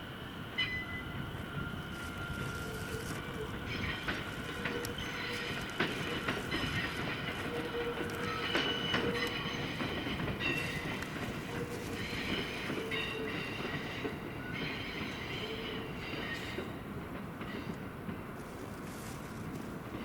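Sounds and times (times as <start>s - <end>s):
train wheels squealing: 0.0s - 16.8s, 17.4s - 17.9s
electric train rumbling past: 0.0s - 20.0s.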